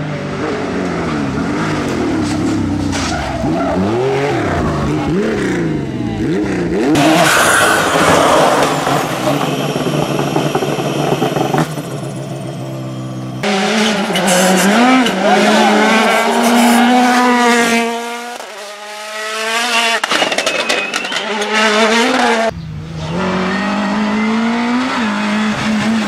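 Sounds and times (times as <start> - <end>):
rally car engines revving: 0.0 - 12.5, 13.3 - 26.0.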